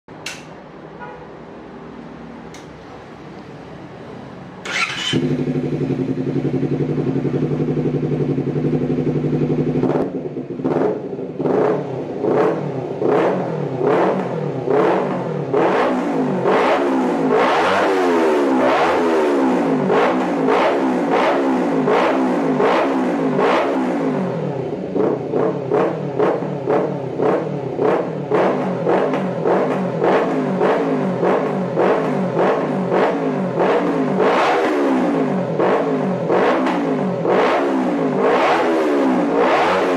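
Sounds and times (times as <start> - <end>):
motorcycle engine revving: 4.6 - 39.9.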